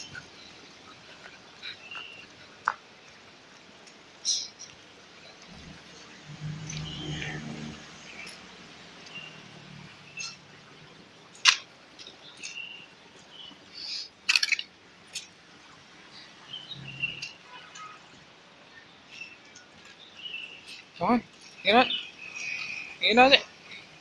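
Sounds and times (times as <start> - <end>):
small birds chirping: 0.0 - 3.2, 4.2 - 24.0.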